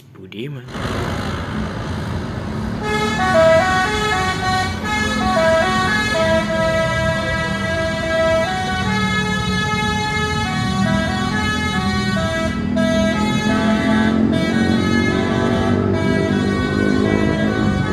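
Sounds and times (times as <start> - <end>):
multi-tone bus air horn melody: 2.8 - 17.9.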